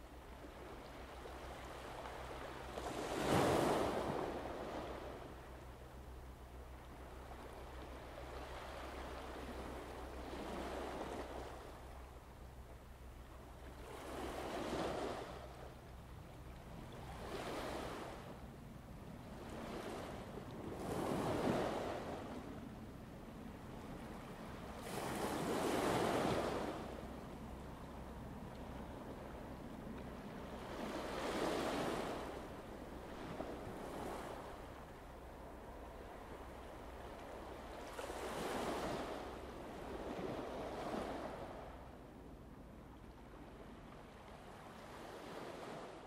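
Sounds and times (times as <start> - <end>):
waves washing and breaking: 0.0 - 5.6, 7.1 - 12.1, 13.6 - 15.8, 16.9 - 18.4, 19.2 - 22.7, 23.3 - 42.0, 43.2 - 46.0
steady low hum: 3.8 - 44.9.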